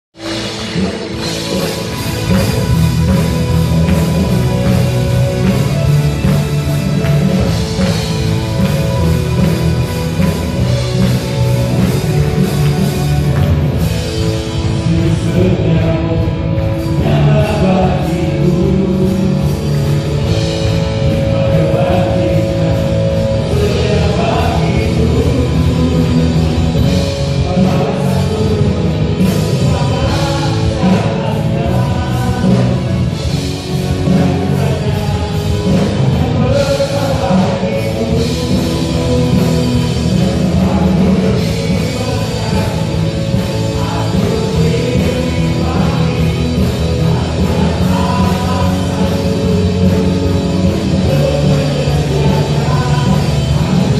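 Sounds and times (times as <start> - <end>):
band playing pop-rock song: 0.1 - 53.9
lead and backing vocals: 0.2 - 53.9.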